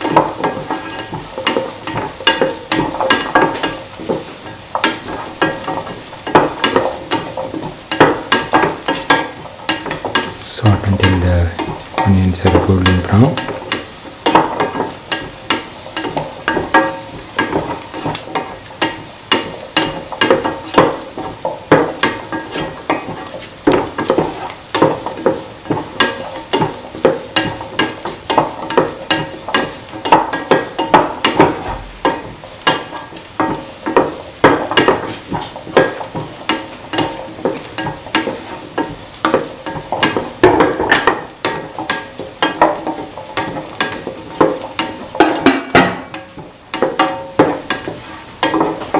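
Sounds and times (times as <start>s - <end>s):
light sizzle of frying: 0.0s - 48.9s
utensil scraping a pan: 0.0s - 48.9s.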